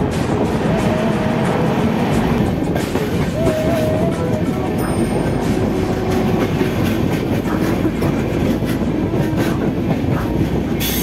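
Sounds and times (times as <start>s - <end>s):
train wheels rumbling on track: 0.0s - 11.0s
wheels clacking over rail joints: 0.0s - 11.0s.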